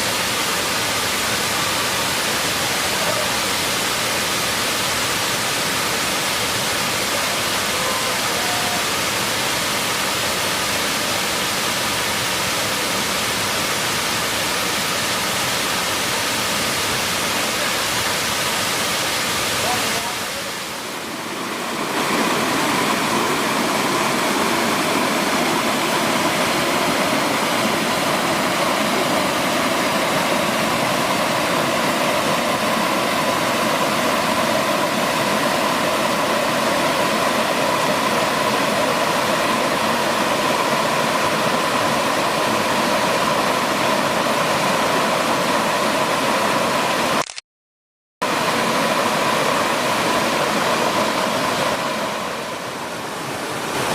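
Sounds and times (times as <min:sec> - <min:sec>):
waterfall rushing: 0:00.0 - 0:47.2, 0:48.2 - 0:53.9.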